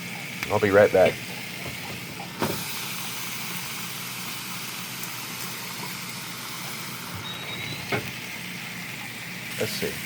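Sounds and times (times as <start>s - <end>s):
chicken sizzling on electric grill: 0.0s - 10.0s.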